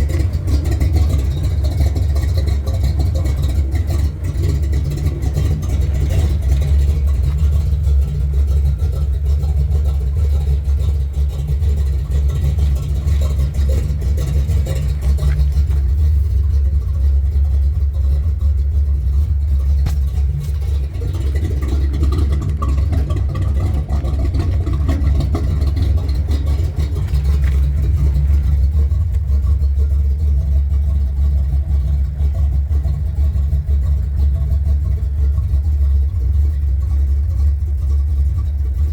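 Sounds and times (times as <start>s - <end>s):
pickup engine rumbling: 0.0s - 38.9s.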